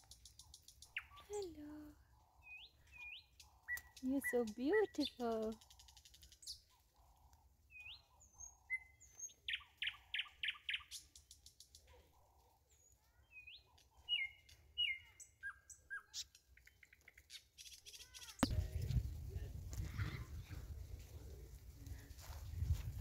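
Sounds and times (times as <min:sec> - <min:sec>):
bird chirping: 0:00.0 - 0:18.6.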